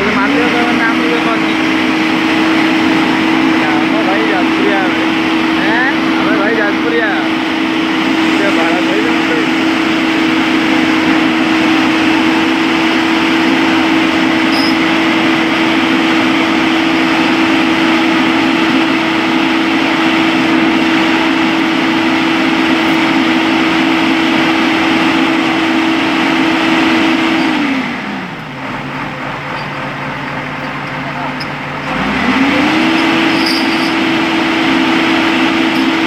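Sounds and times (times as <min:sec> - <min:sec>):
large engine droning: 0:00.0 - 0:36.0.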